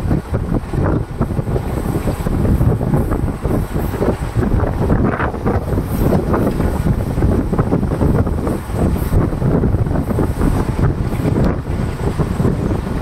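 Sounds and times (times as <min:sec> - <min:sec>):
train running on rails: 0:00.0 - 0:13.0
wind buffeting microphone: 0:00.0 - 0:13.0.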